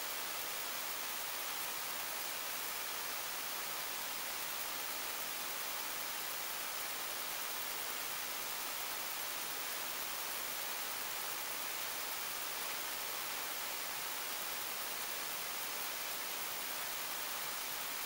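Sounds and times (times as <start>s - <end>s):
recording noise hiss: 0.0s - 18.0s.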